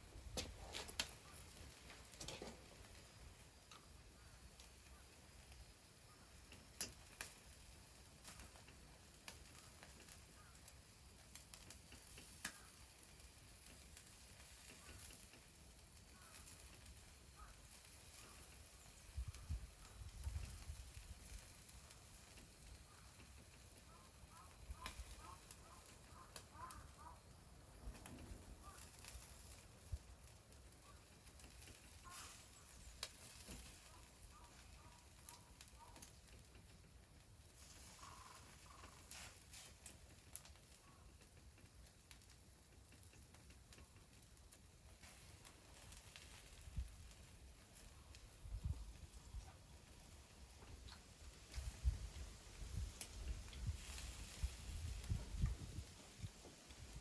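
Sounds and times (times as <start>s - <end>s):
faint wood fire crackling: 0.0s - 57.0s.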